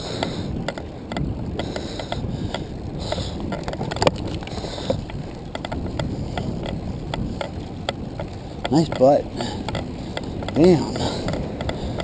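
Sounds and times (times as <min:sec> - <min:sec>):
tyre and road rumble: 0:00.0 - 0:12.0.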